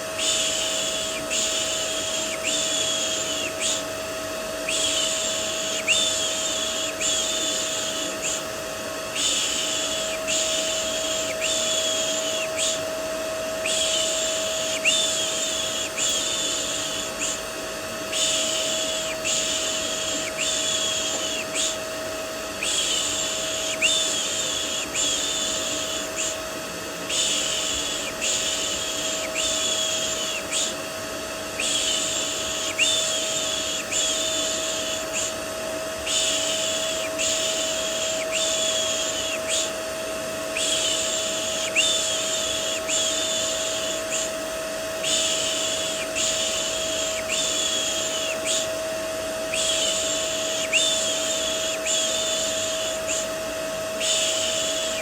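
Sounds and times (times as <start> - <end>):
vacuum cleaner motor humming: 0.0 - 55.0.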